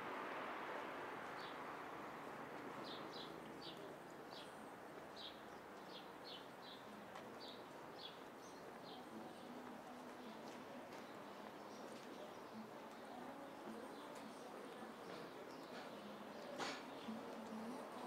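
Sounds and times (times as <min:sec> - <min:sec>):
soft steady background noise: 0:00.0 - 0:18.0.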